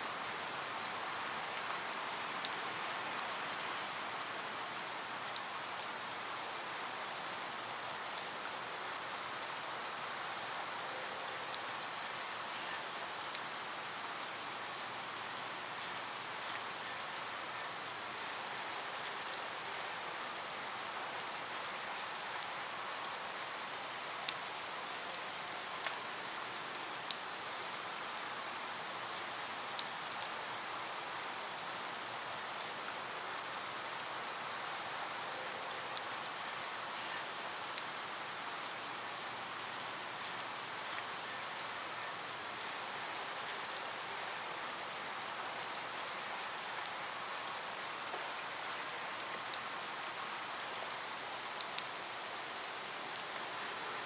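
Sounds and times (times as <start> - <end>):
raindrops ticking on a surface: 0.0 - 10.8, 11.4 - 54.0
steady rain: 0.0 - 54.0.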